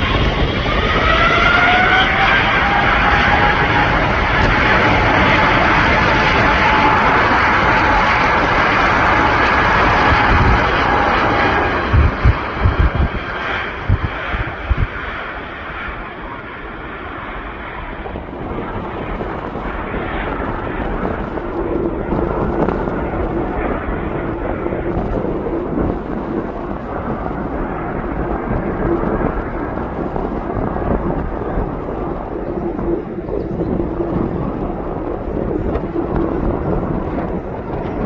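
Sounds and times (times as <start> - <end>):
wind thumps on microphone: 0.0 - 15.3, 18.0 - 38.0
airliner engines whining: 0.0 - 38.0.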